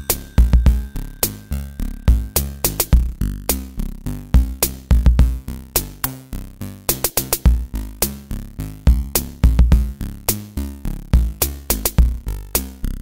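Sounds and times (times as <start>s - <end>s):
fast beat music with bass: 0.0s - 12.9s.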